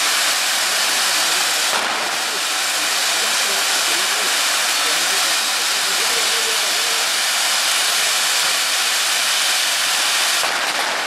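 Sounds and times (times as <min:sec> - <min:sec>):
firework fountains hissing: 0:00.0 - 0:11.0.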